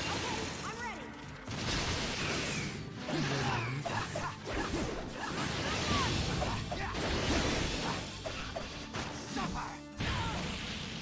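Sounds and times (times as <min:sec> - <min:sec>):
dramatic music: 0:00.0 - 0:11.0.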